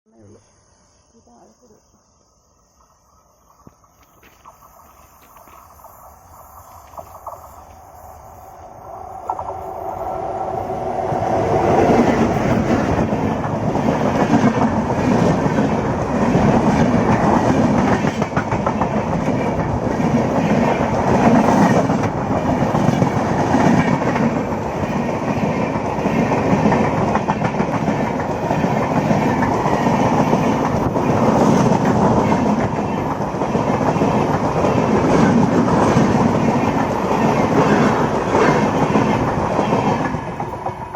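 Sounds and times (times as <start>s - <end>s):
train wheels clattering on track: 3.9s - 40.9s.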